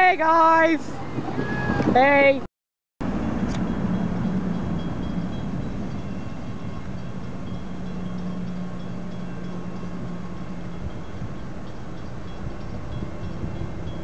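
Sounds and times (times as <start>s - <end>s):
train cars rumbling: 0.0s - 2.4s, 3.0s - 14.0s.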